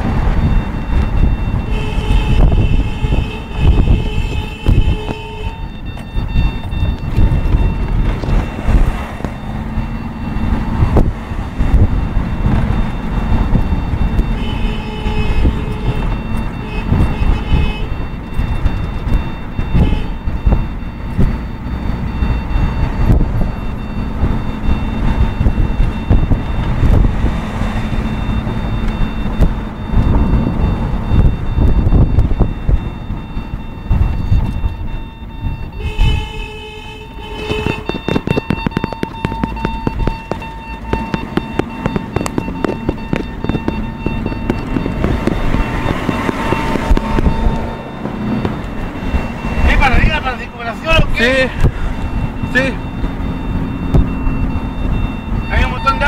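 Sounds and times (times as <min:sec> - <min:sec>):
vehicle engine and road rumble: 0:00.0 - 0:56.0
wind buffeting: 0:00.0 - 0:56.0.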